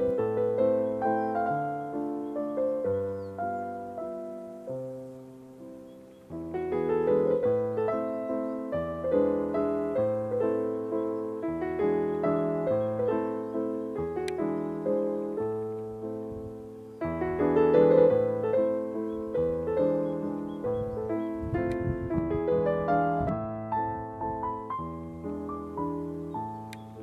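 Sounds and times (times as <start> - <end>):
piano melody: 0.0 - 27.0.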